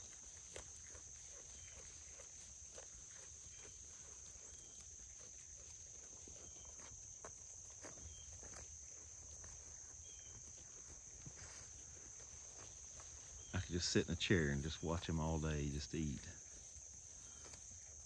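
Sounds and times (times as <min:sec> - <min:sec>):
sheep cropping grass: 0:00.0 - 0:18.0.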